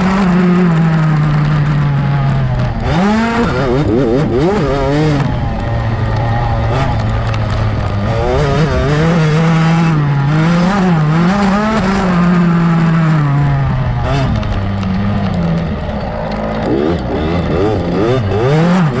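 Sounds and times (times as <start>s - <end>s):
two-stroke motocross engine: 0.0s - 19.0s.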